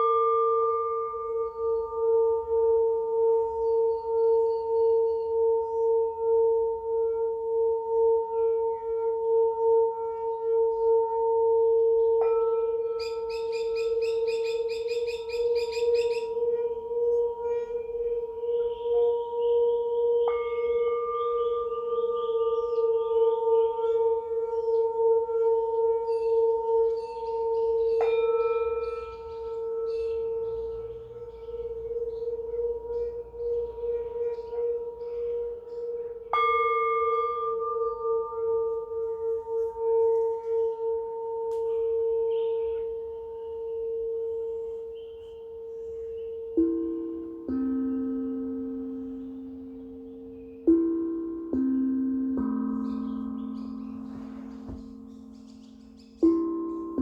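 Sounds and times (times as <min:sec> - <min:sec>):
singing bowl struck: 0:00.0 - 0:57.0
singing bowls ringing: 0:00.0 - 0:57.0.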